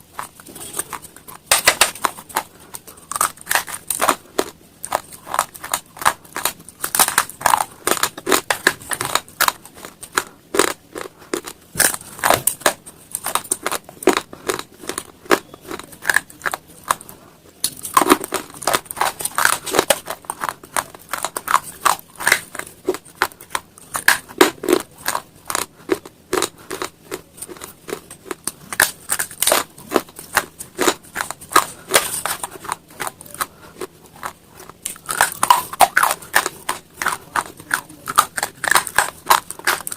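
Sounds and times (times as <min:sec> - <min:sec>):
chewing and crunching stone: 0:00.0 - 0:39.9.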